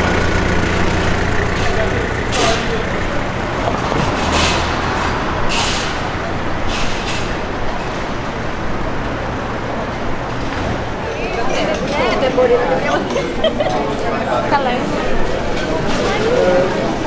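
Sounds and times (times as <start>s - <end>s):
street traffic din: 0.0s - 17.0s.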